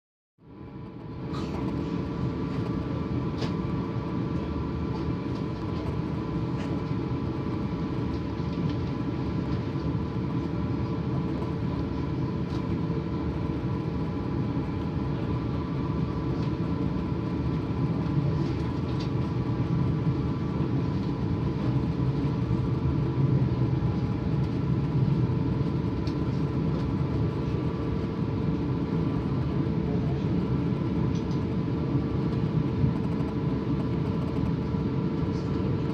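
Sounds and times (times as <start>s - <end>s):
train running rumble: 0.6s - 35.9s.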